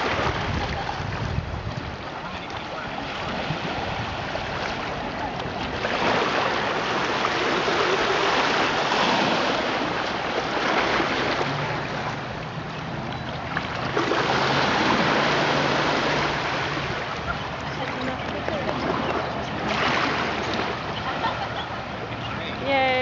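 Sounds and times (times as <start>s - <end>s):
small waves washing over sand: 0.0s - 23.0s.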